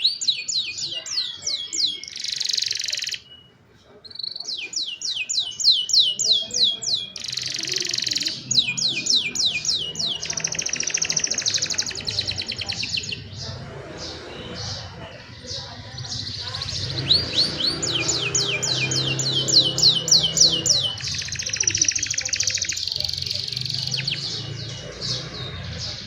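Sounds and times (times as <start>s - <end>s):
canary singing whistles and trills: 0.0s - 26.0s.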